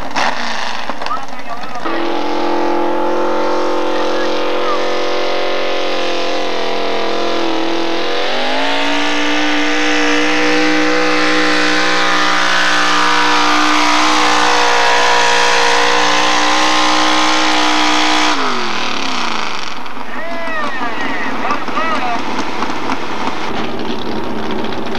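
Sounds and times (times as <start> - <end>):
truck engine at full throttle: 0.0 - 24.9.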